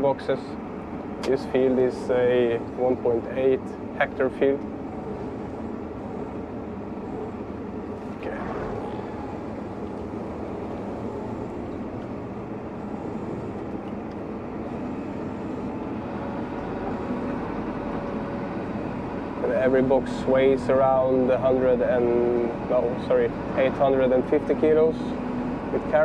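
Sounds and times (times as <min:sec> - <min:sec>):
tractor and harvester droning: 0:00.0 - 0:26.0.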